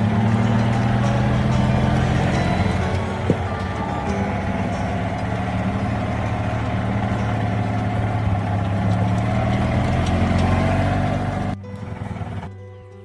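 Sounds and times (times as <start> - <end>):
cart engine running: 0.0 - 12.6.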